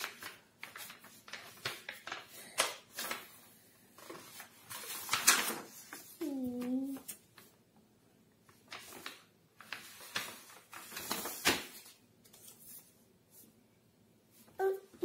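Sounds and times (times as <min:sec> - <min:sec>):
book page turning: 0:00.0 - 0:07.5, 0:08.5 - 0:13.5.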